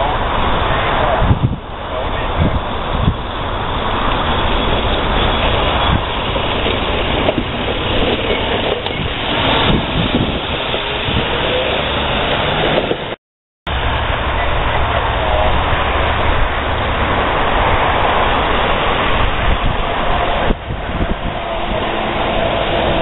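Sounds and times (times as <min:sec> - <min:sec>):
truck engine humming: 0:00.0 - 0:23.0
wheels rumbling on rails: 0:00.0 - 0:23.0.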